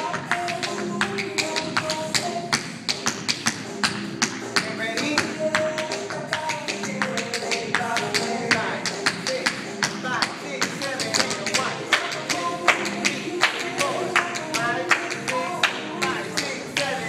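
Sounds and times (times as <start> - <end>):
pop music with steady beat: 0.0 - 17.0.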